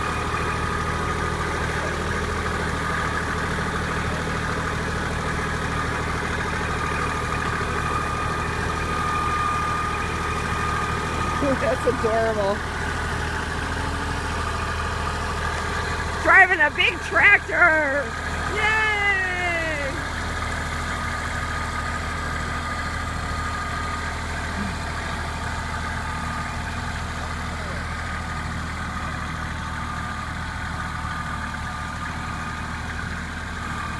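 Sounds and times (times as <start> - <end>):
engine whine: 0.0 - 33.9
tractor engine idling: 0.0 - 33.9.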